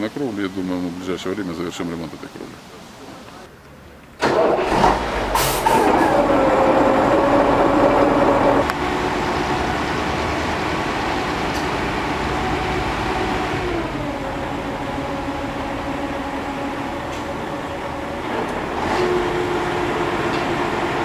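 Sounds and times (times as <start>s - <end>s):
heavy machinery engine droning: 3.0s - 21.0s.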